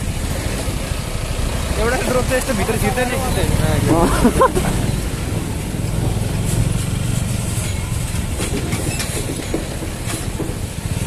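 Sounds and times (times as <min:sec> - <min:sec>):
motorcycle engine: 0:00.0 - 0:11.0
truck engine drone: 0:00.0 - 0:11.0.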